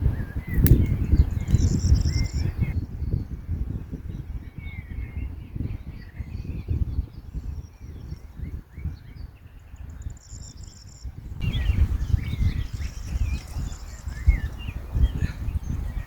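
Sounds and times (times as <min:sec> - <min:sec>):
birds chirping faintly: 0:00.2 - 0:16.0.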